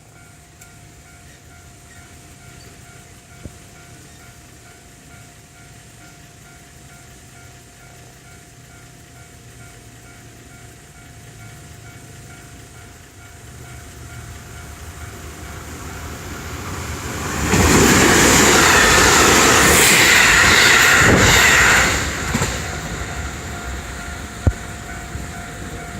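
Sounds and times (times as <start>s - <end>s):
electric train passing: 0.0s - 25.9s
level crossing warning bell: 0.0s - 25.9s.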